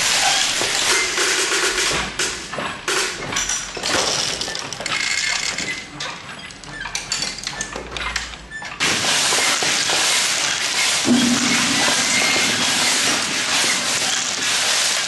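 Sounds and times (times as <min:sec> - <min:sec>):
wooden kinetic sculpture running: 0:00.0 - 0:15.0.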